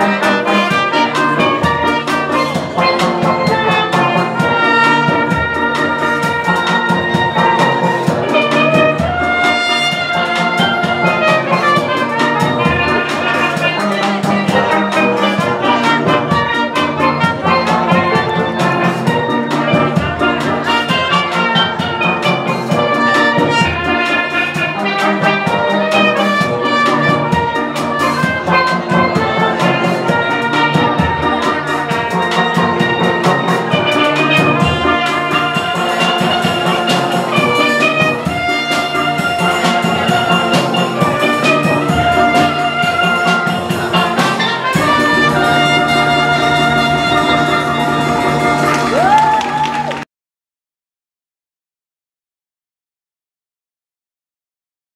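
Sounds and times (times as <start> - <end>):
steel pans playing melody: 0.0 - 49.2
drum kit steady beat: 0.0 - 49.9
trumpet: 0.0 - 50.1.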